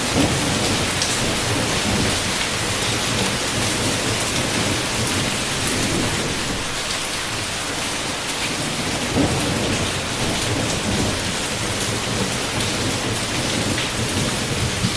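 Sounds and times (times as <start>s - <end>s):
heavy rain: 0.0s - 14.9s
rolling thunder: 0.0s - 14.9s.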